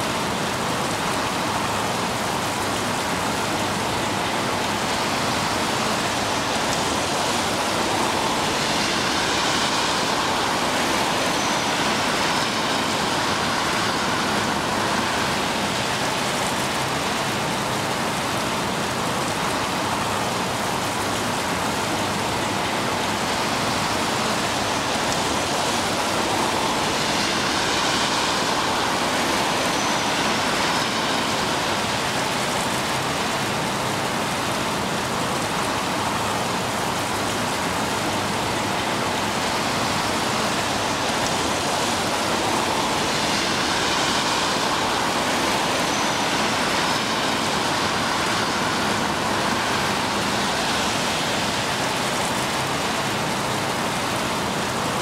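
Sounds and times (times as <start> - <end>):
rain falling on pools: 0.0 - 55.0.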